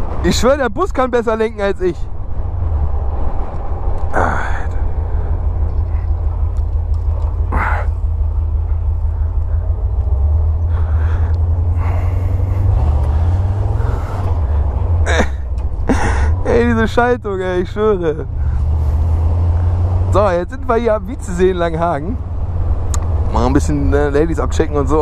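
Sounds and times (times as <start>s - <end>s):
engine low rumble: 0.0s - 25.0s.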